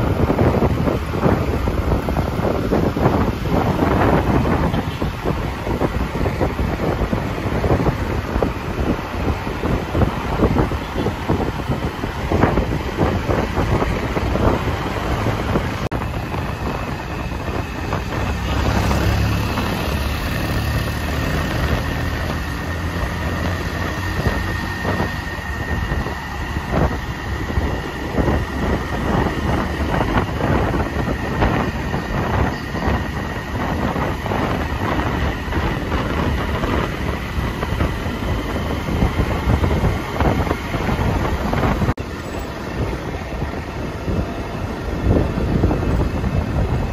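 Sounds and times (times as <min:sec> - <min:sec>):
heavy engine rumble: 0:00.0 - 0:46.9
vehicle engines running: 0:00.0 - 0:46.9
wind buffeting microphone: 0:00.0 - 0:46.9.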